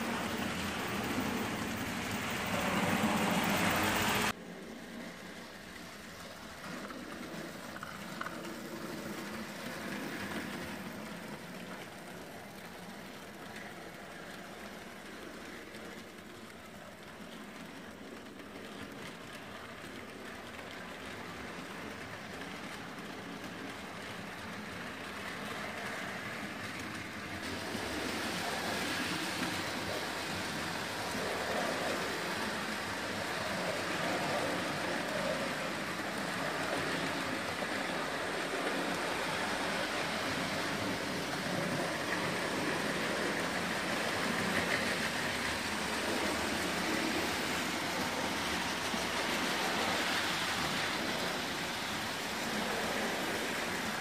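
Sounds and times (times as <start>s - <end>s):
model train wheels on rails: 0.0s - 54.0s.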